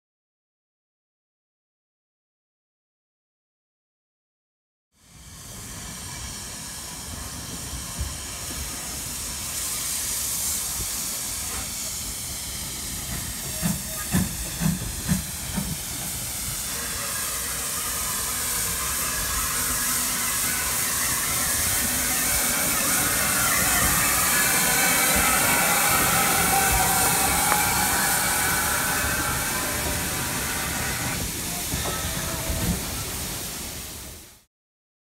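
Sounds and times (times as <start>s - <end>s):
steam locomotive hissing: 5.0s - 34.5s.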